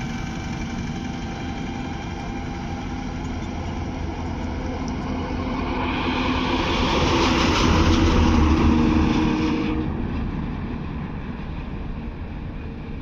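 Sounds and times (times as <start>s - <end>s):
heavy truck passing by: 0.0s - 13.0s.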